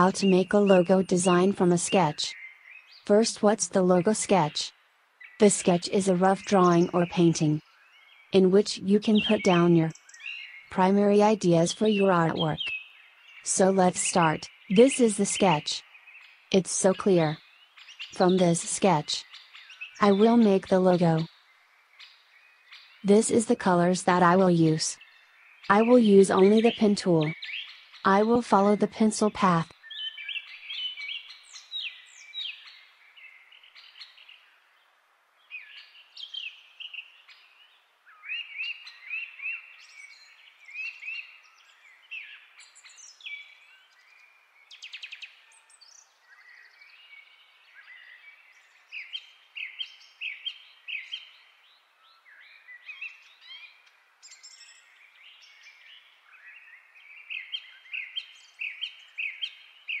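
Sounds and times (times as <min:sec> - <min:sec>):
birds chirping and singing: 0:00.0 - 0:34.5, 0:35.5 - 1:00.0.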